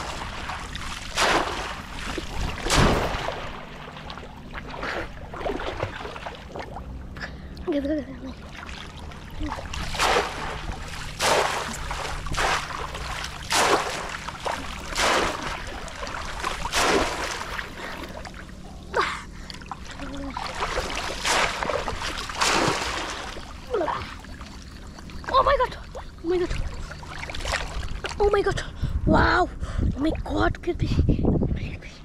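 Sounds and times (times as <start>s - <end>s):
muddy water splashing: 0.0s - 28.5s.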